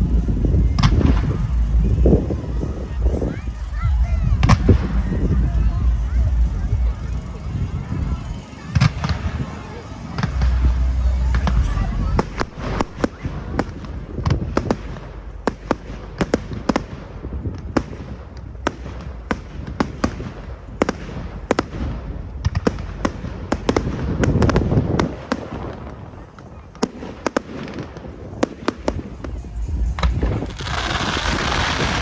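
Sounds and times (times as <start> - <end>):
deep fireworks boom: 0.0 - 32.0
fireworks bangs and cracks: 0.0 - 32.0.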